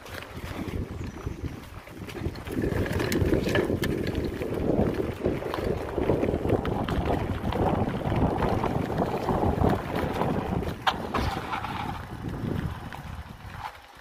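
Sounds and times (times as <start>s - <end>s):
bike rattling: 0.0s - 14.0s
tyres rumbling on dirt: 0.0s - 14.0s
wind on microphone: 0.0s - 14.0s.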